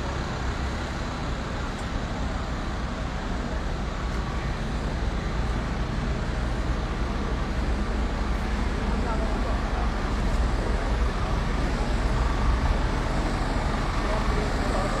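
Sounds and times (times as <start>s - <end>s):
heavy diesel engines idling: 0.0s - 15.0s.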